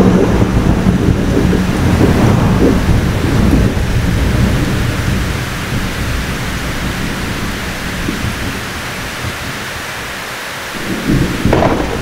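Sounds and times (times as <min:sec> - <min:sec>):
heavy rain: 0:00.0 - 0:12.0
thunder rumbling: 0:00.0 - 0:12.0.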